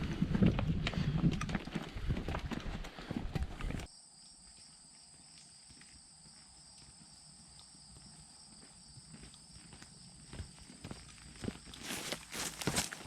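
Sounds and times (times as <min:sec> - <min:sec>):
footsteps on trail: 0:00.0 - 0:13.0.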